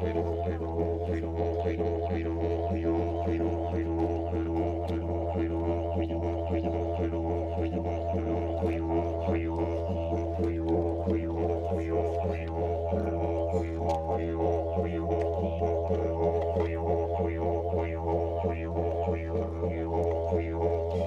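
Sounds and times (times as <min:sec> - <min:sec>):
didgeridoo drone: 0:00.0 - 0:21.0.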